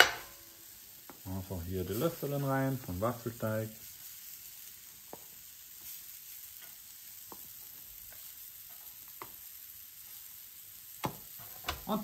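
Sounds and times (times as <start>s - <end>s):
batter sizzling on grill plates: 0.0s - 12.0s.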